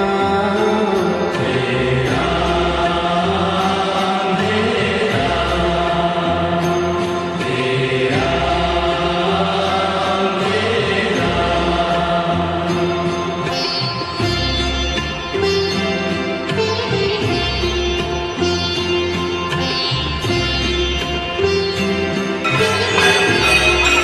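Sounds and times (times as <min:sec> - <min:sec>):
mantra chanting with music: 0:00.0 - 0:24.0.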